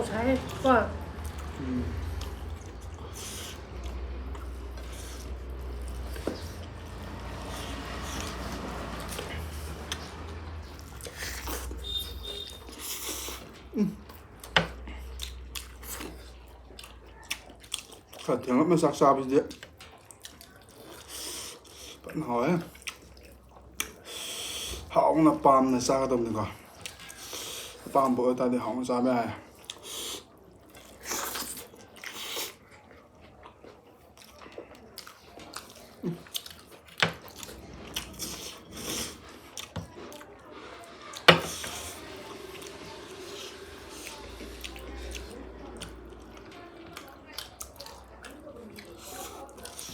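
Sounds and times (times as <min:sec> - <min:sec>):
person chewing: 0:00.3 - 0:18.4, 0:19.4 - 0:24.9, 0:26.5 - 0:27.9, 0:29.5 - 0:49.9.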